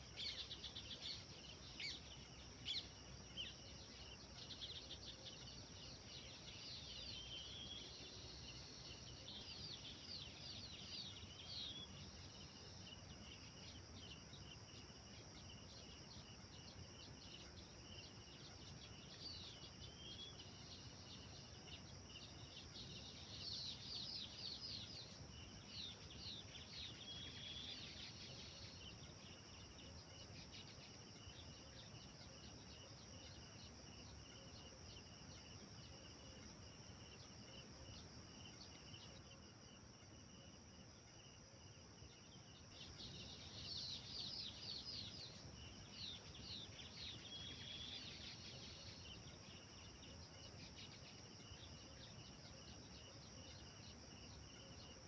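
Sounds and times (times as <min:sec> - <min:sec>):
faint songbird singing: 0:00.0 - 0:55.0
insects chirring: 0:00.0 - 0:55.0.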